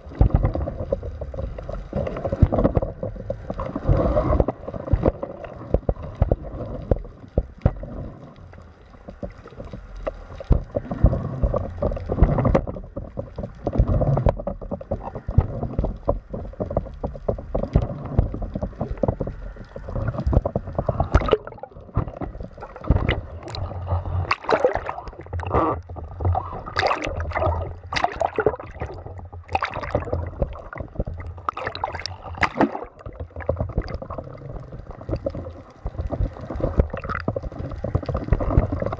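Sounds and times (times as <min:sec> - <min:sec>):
low underwater rumble: 0:00.0 - 0:38.9.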